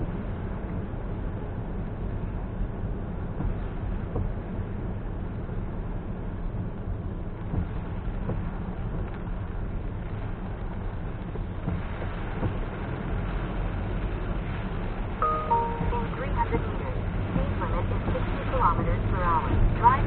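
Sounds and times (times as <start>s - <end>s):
rain hissing: 0.0s - 20.0s
road and tyre rumble: 0.0s - 20.0s.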